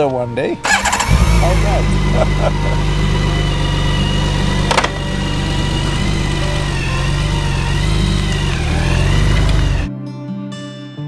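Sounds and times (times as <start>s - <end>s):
motorcycle engine idling: 0.6s - 9.9s.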